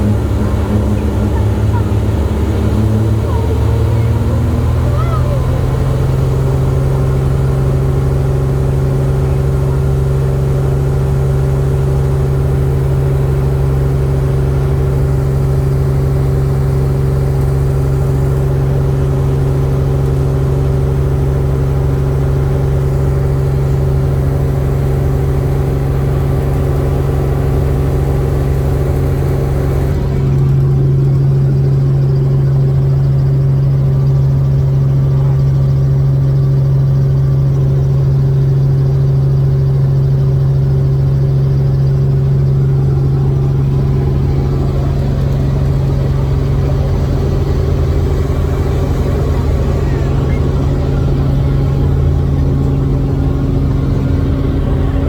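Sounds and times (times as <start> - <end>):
helicopter in flight: 0.0 - 55.0.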